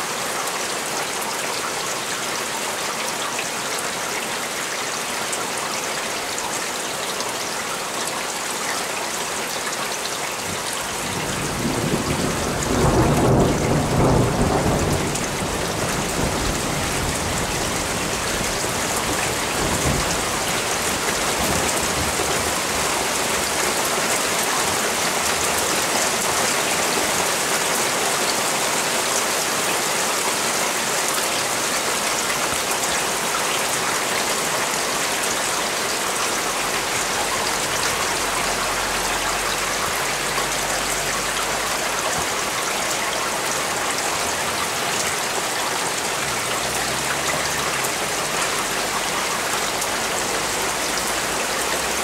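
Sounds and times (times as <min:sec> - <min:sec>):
rain on hard surfaces: 0:00.0 - 0:52.0.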